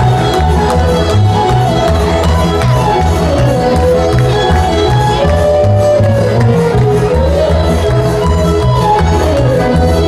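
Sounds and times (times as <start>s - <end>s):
folk dance music: 0.0s - 10.0s.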